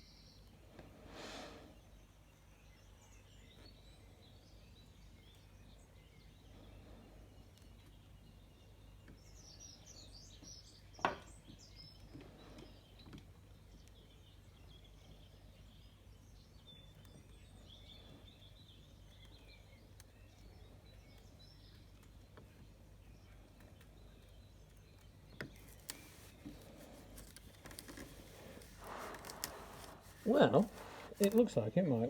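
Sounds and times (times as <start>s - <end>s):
low background noise: 0.0s - 32.0s.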